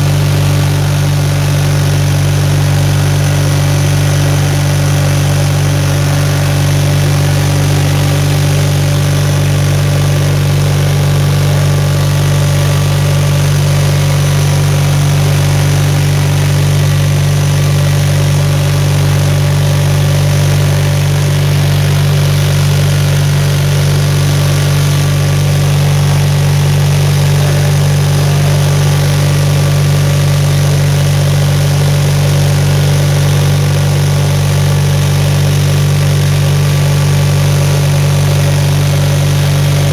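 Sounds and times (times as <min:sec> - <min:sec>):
snow blower engine humming: 0:00.0 - 0:39.9.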